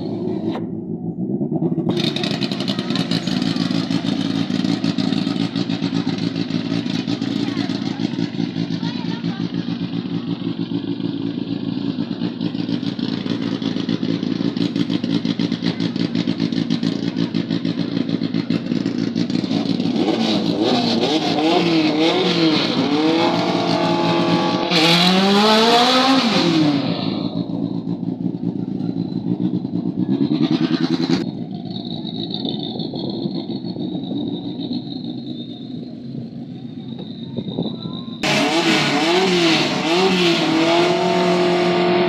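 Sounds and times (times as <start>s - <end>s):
engine accelerating through gears: 0.0s - 8.8s, 9.6s - 42.0s
drag racing engines idling: 0.0s - 42.0s.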